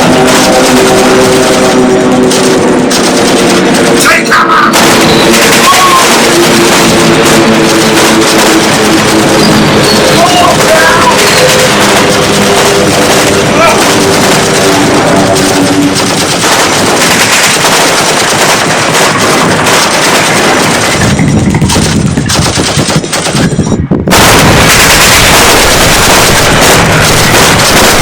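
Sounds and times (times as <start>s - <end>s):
machine-gun fire: 0.0s - 28.0s.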